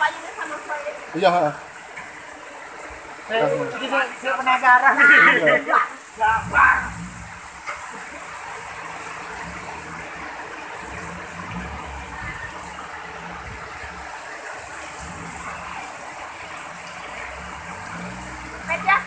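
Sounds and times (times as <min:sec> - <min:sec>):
falling rain: 0:00.0 - 0:19.0
floodwater rushing over ground: 0:00.0 - 0:19.0.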